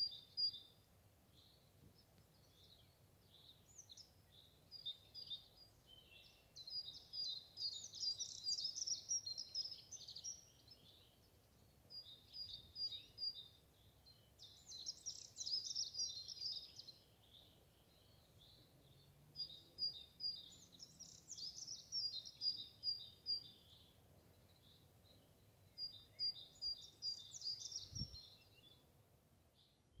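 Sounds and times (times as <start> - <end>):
faint outdoor background noise: 0.0 - 30.0
songbird singing: 0.0 - 30.0.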